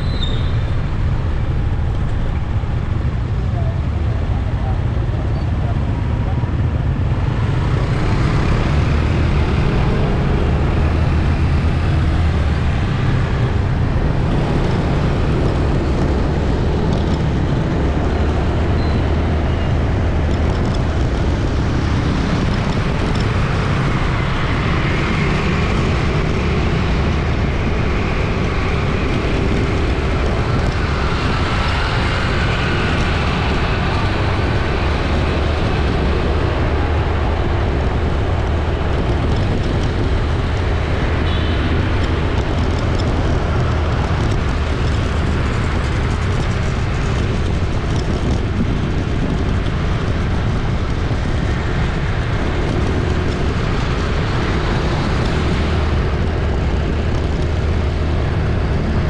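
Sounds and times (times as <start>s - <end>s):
city street traffic: 0.0s - 59.0s.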